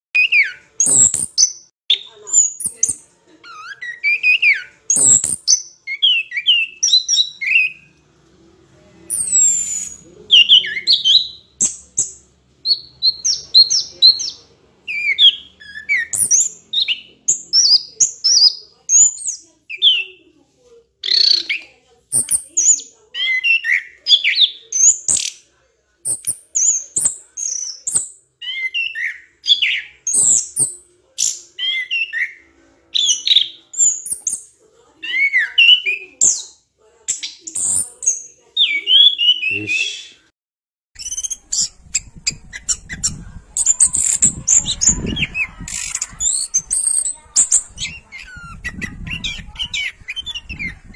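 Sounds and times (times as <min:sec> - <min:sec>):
bird chirping: 0:00.2 - 0:08.0, 0:09.0 - 0:20.3, 0:21.0 - 0:40.2, 0:41.0 - 0:50.9.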